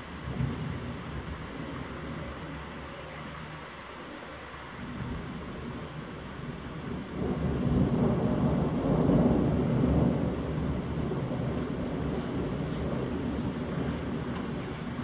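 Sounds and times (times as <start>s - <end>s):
thunder rumbling: 0.0s - 3.2s, 4.8s - 15.0s
heavy rain: 0.0s - 15.0s.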